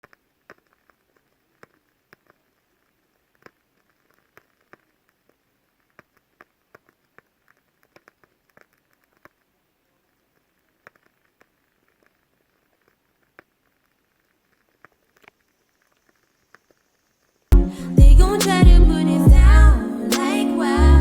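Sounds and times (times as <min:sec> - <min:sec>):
faint hiss: 0:00.0 - 0:20.9.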